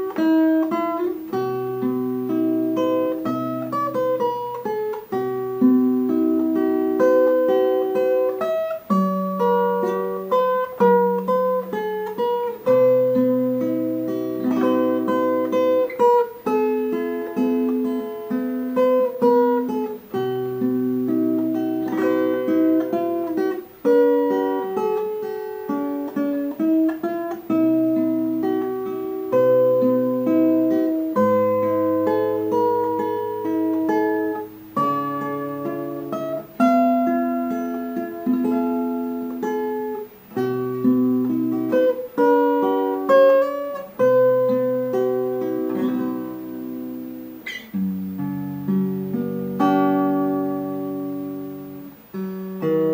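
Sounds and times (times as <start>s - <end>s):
instrumental music with sustained chords: 0.0s - 52.9s.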